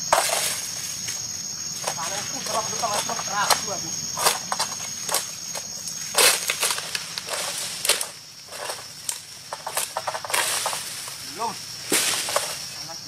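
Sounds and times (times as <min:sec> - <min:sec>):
high insect whine: 0:00.0 - 0:13.0
sickle cutting and scraping fronds: 0:00.0 - 0:13.0.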